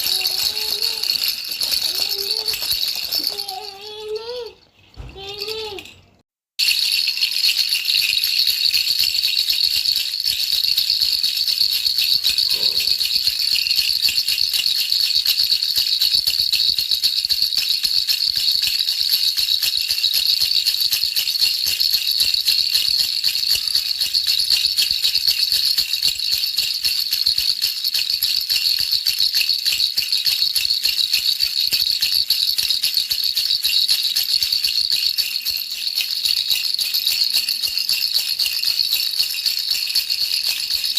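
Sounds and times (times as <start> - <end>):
baby rattle shaken: 0.0 - 40.9.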